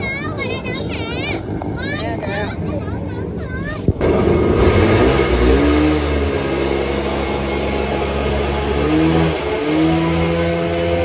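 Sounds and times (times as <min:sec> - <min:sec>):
jet boat engine running: 0:00.0 - 0:11.0
water rushing: 0:00.0 - 0:11.0
wind: 0:00.0 - 0:11.0.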